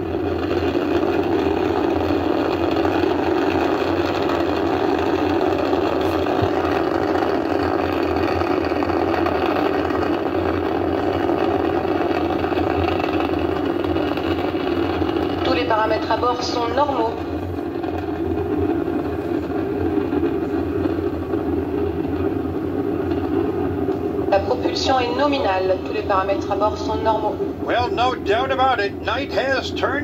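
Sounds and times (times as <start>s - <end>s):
rocket engines roaring: 0.0s - 30.0s.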